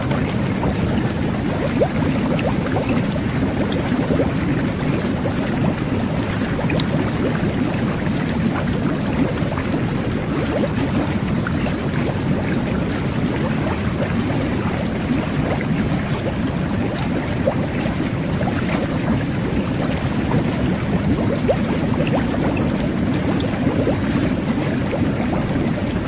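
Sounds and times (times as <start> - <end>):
whirlpool bath jets bubbling: 0.0 - 26.0.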